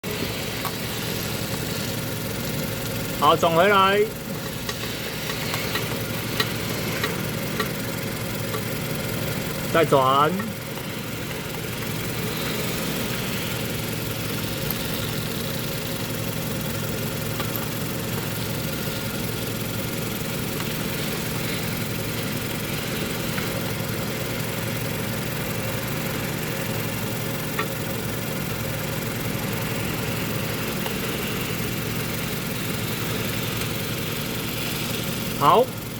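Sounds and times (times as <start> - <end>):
car engine idling: 0.0 - 35.9
chassis clicks: 0.5 - 28.1, 29.1 - 34.1.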